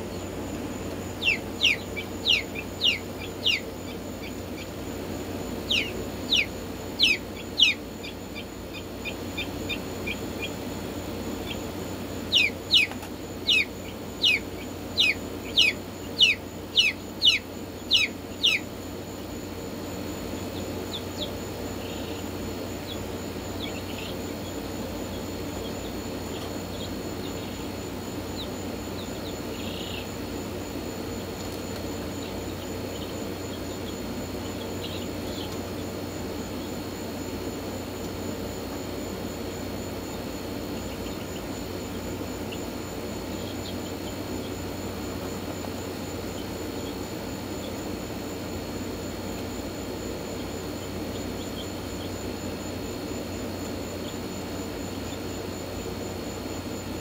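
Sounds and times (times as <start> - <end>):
chicks peeping loudly: 0.0 - 55.4
faint chirps: 0.0 - 57.0
steady low hum: 0.0 - 57.0.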